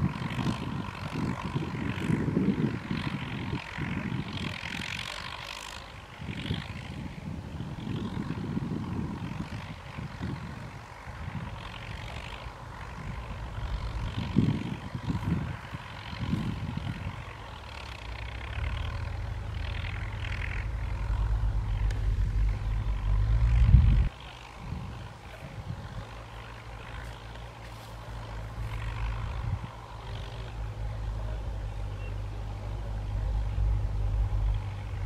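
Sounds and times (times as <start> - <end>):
tractor diesel engine droning: 0.0 - 35.0.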